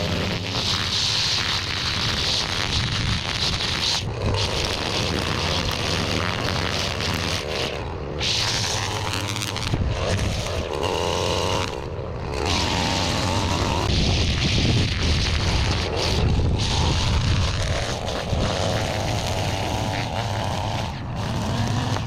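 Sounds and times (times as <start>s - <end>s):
small gas engine running: 0.0s - 22.0s.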